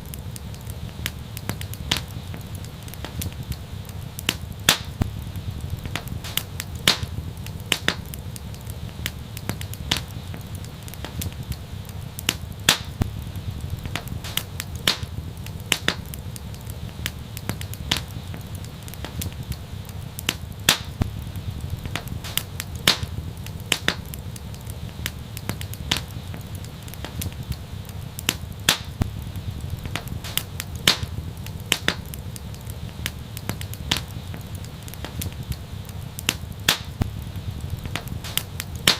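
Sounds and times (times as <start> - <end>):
fireplace fire crackling: 0.0 - 38.9
low rumble of flames: 0.0 - 38.9
sharp pops of fire: 0.0 - 38.9.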